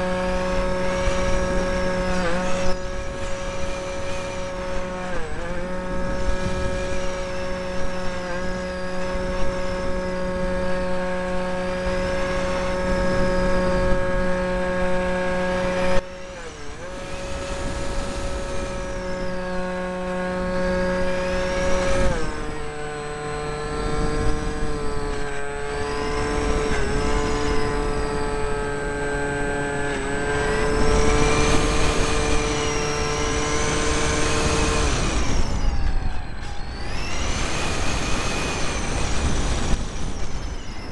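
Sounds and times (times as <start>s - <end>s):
model plane motor whining: 0.0s - 40.9s.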